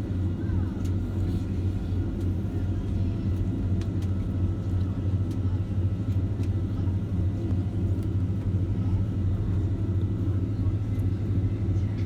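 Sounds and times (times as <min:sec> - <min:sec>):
low rumble in aircraft cabin: 0:00.0 - 0:12.0.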